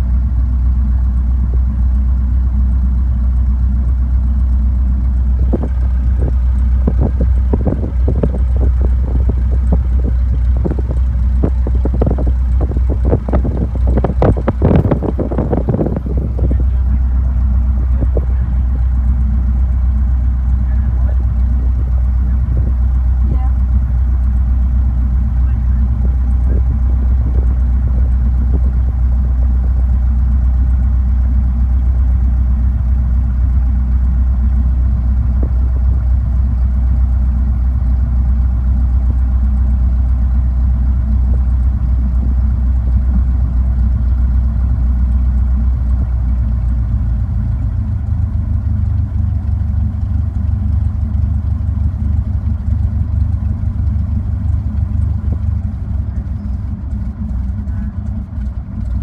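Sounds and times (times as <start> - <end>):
airplane engine droning: 0.0 - 59.0.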